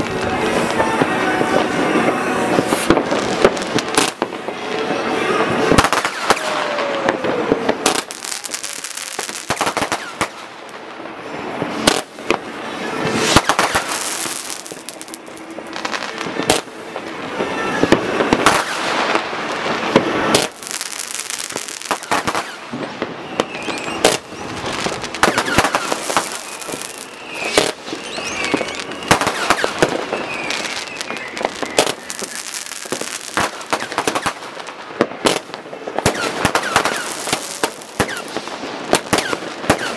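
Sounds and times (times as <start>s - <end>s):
firework bangs and crackling: 0.0s - 39.9s
whistling rockets: 5.2s - 10.6s, 11.6s - 39.9s.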